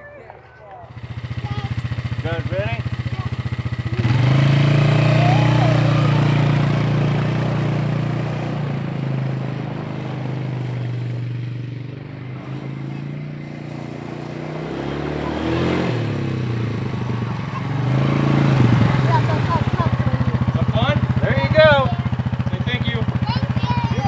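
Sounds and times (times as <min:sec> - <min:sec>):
quad bike engine revving: 0:00.9 - 0:24.0.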